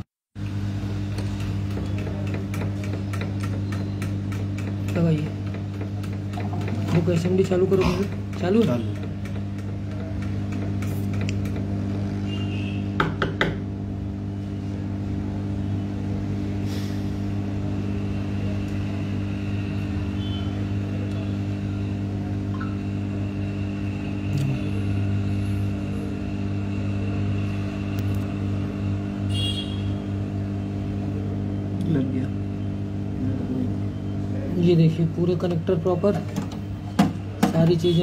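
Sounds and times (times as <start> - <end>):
hot-air station blowing: 0.5 - 34.7.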